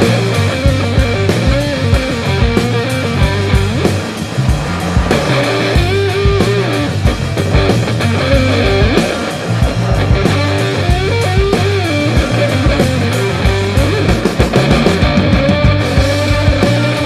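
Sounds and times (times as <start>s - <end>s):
bass guitar: 0.0s - 17.0s
drum beat: 0.0s - 17.0s
lead electric guitar: 0.0s - 17.0s.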